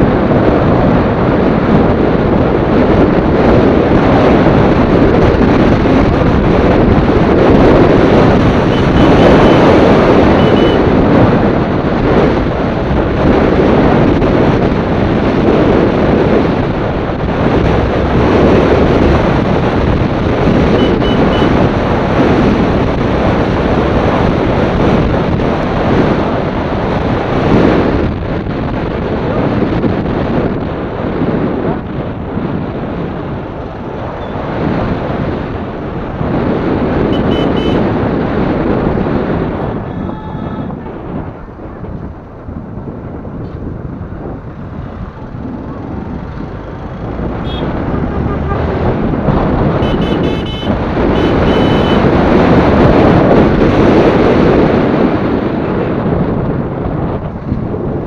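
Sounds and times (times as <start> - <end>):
road noise: 0.0 - 58.0
wind buffeting microphone: 0.0 - 58.0.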